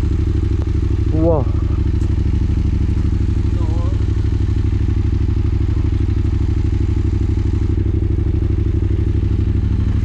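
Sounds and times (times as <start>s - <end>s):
quad engine idling: 0.0s - 10.0s.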